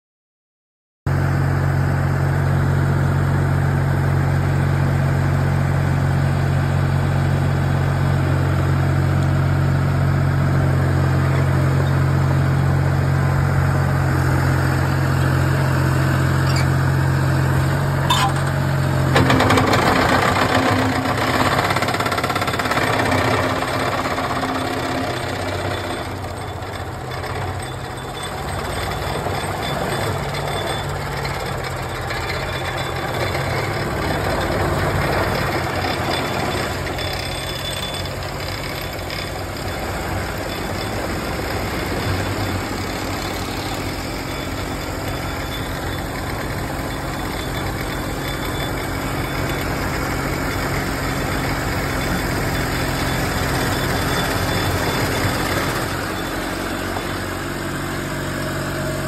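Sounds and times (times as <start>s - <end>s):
diesel engine running: 1.1s - 59.0s
rough machinery noise: 1.2s - 59.0s.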